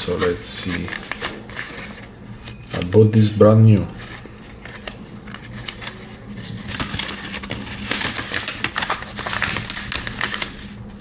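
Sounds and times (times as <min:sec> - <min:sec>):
hands handling packaging: 0:00.0 - 0:10.8.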